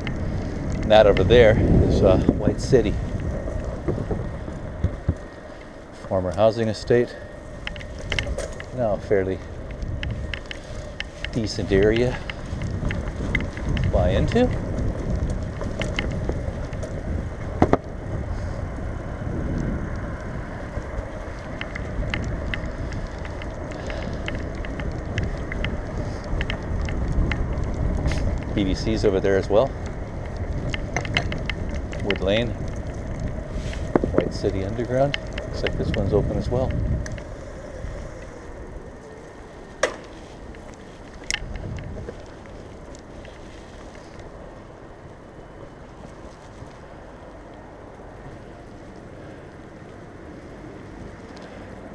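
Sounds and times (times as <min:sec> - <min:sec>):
bicycle clicks: 0:00.0 - 0:51.9
wind and tyre noise: 0:00.0 - 0:51.9.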